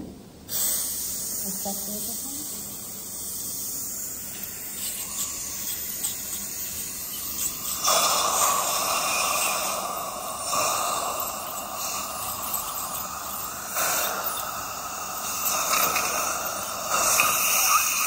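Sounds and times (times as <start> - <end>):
dental suction hissing: 0.5 - 18.0.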